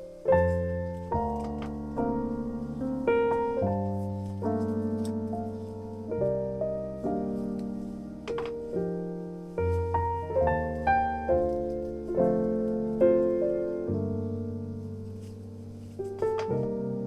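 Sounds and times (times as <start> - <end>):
gentle solo piano melody: 0.0 - 17.0.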